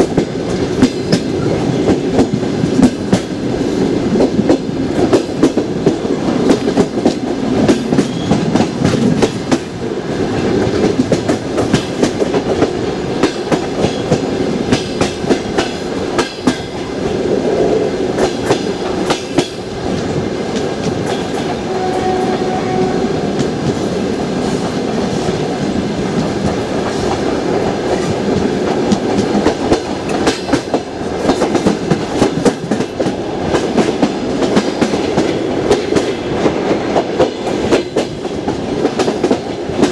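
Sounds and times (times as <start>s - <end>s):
train wheels clattering over rail joints: 0.0s - 17.0s, 23.4s - 39.9s
rumble of train carriages: 0.0s - 39.9s.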